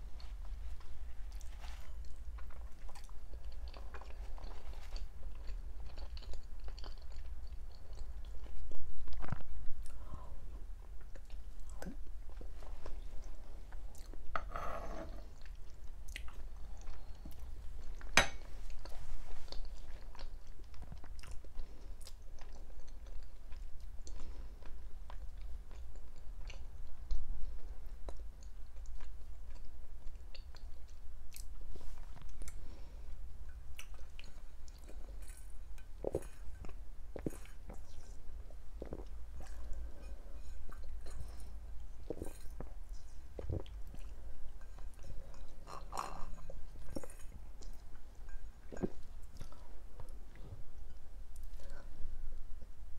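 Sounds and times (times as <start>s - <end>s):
steady low hum: 0.0s - 52.9s
person chewing food: 0.2s - 14.3s, 14.9s - 52.8s.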